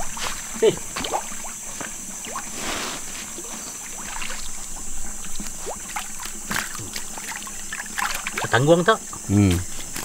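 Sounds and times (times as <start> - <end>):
water splashing in a pond: 0.0 - 9.2.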